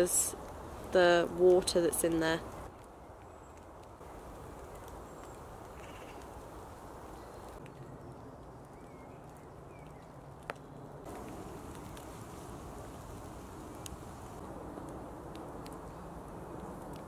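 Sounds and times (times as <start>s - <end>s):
soft outdoor rush: 0.0s - 17.0s.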